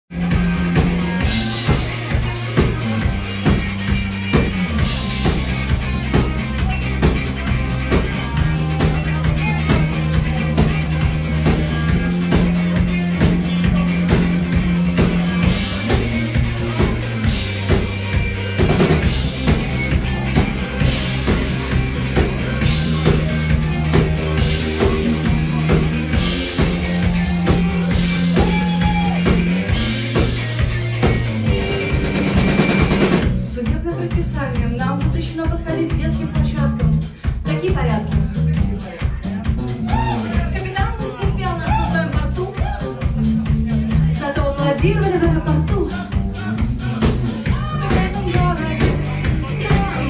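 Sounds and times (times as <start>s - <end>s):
bass line: 0.0s - 50.0s
drum kit beat: 0.1s - 50.0s.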